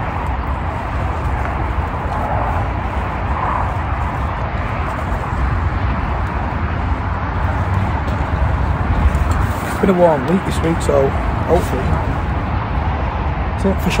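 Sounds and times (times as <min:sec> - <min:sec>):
wind rumble buffeting microphone: 0:00.0 - 0:14.0.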